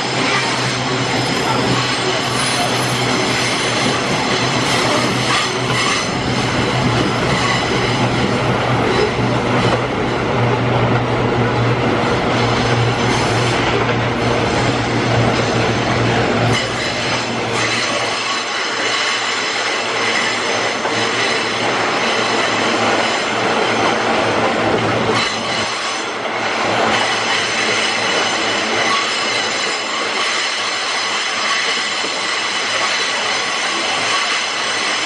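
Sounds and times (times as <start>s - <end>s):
wheels squealing on rails: 0.0s - 9.8s, 12.2s - 23.9s, 25.1s - 35.0s
rail clatter: 0.0s - 35.0s.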